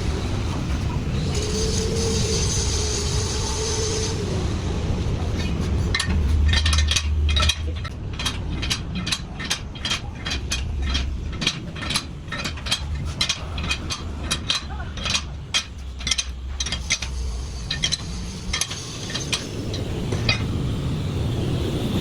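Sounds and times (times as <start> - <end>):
low rumble: 0.0 - 22.0
machine whine: 0.0 - 22.0.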